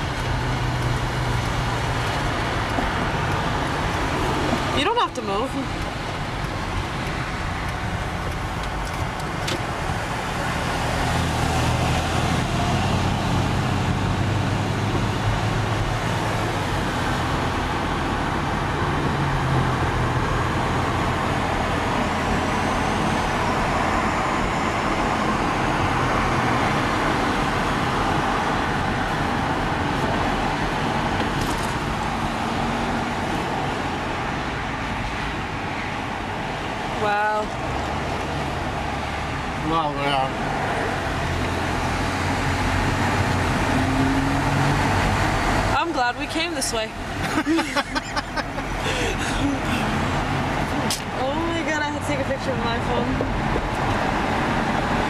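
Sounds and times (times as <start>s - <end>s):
tyres rushing on road: 0.0s - 55.0s.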